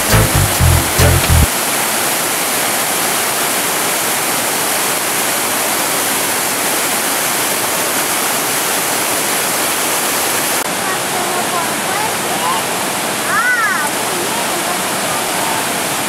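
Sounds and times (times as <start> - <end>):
stream rushing over boulders: 0.0 - 16.0.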